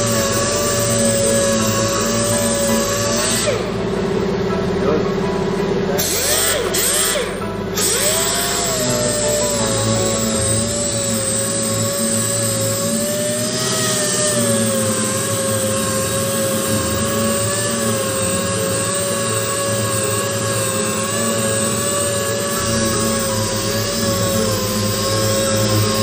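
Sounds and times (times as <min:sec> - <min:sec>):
pneumatic orbital sander whining: 0:00.0 - 0:26.0.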